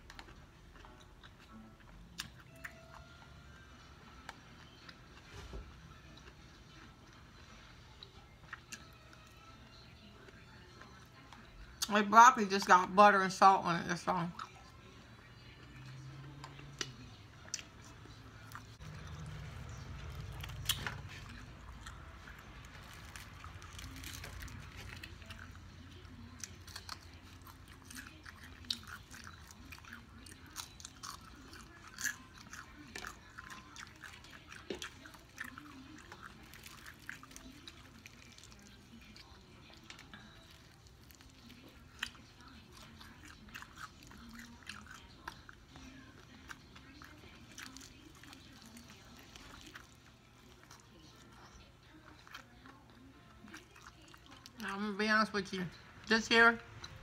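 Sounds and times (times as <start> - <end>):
chewing and crunching: 0.0 - 12.9, 14.0 - 55.0.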